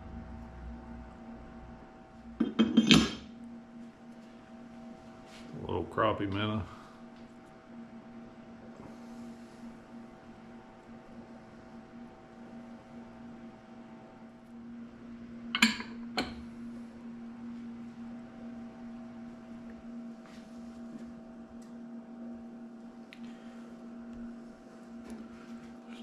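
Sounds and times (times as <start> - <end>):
electrical appliance hum: 0.0 - 26.0.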